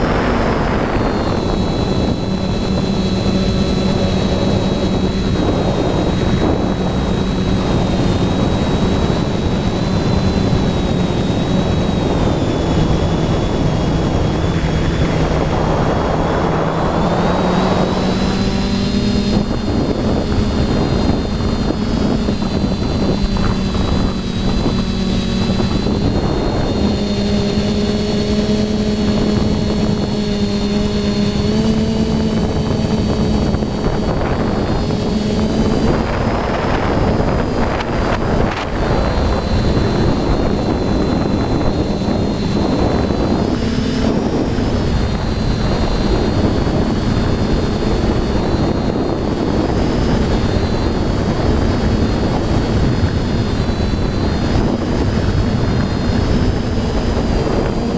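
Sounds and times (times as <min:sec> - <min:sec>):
drone motors and propellers: 0:00.0 - 0:57.9
wind noise: 0:00.0 - 0:57.9.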